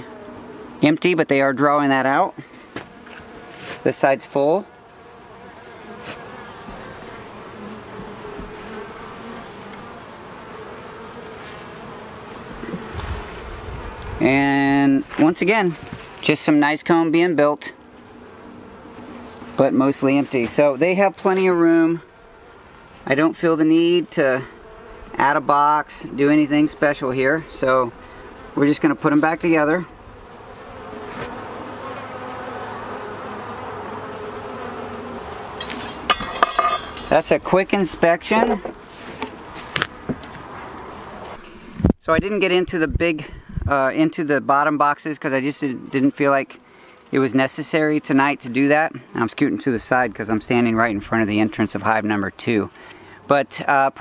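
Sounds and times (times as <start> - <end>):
honey bees buzzing: 0.0 - 54.0.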